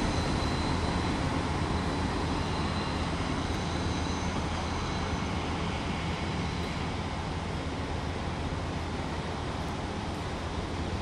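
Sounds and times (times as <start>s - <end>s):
diesel train rumbling: 0.0s - 11.0s.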